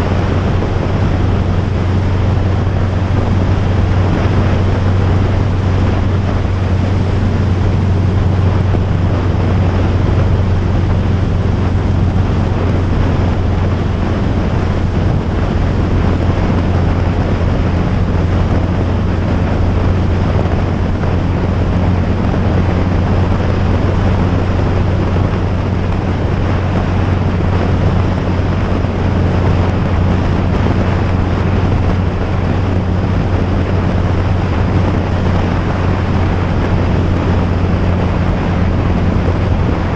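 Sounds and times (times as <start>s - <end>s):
engine drone: 0.0s - 39.9s
wind rushing over microphone: 0.0s - 39.9s.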